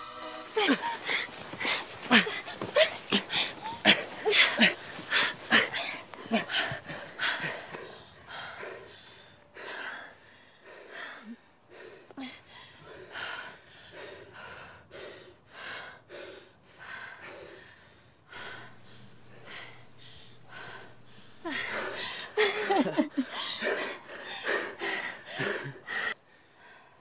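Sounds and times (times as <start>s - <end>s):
person breathing hard: 0.5s - 27.0s.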